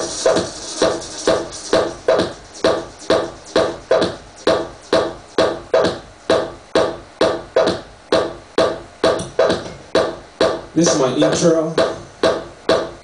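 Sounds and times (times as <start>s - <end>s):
pulsing synth house music: 0.0s - 13.0s.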